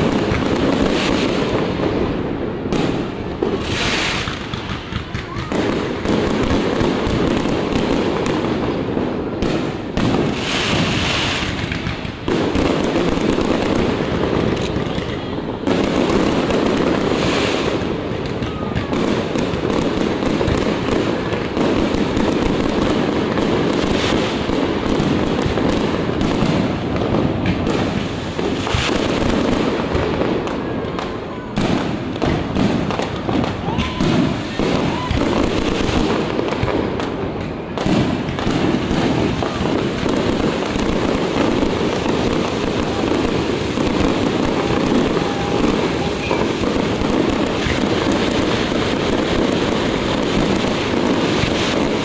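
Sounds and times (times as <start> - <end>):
fireworks bangs and crackling: 0.0 - 52.0
fireworks hissing: 0.0 - 52.0.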